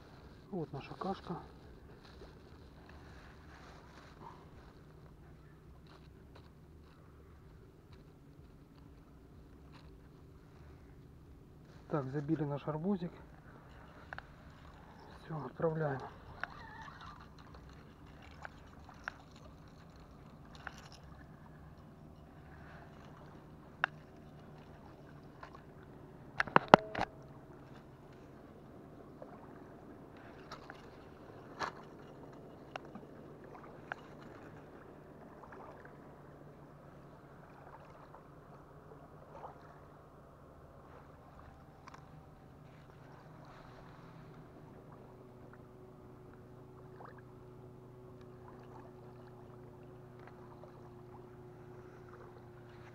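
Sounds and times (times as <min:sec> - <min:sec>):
faint low hum: 0:00.0 - 0:52.9.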